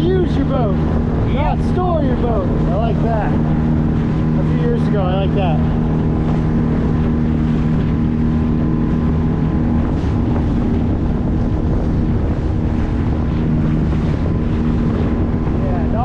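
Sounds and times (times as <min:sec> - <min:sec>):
outboard motor running: 0:00.0 - 0:16.0
wind buffeting microphone: 0:00.0 - 0:16.0.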